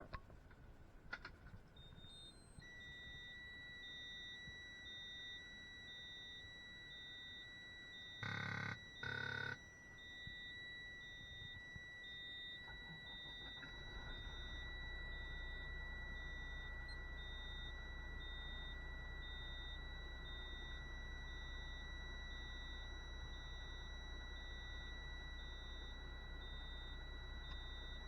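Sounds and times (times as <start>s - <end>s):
pulsing warning beeps: 1.8s - 28.0s
steady high-pitched warning tone: 1.8s - 28.0s.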